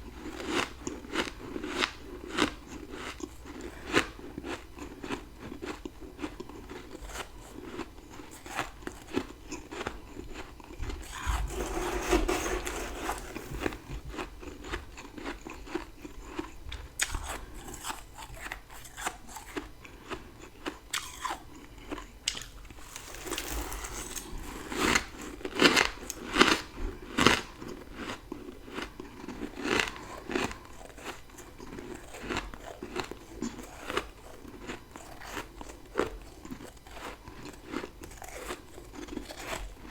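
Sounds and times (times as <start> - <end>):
crunching frost being chewed: 0.0 - 39.9.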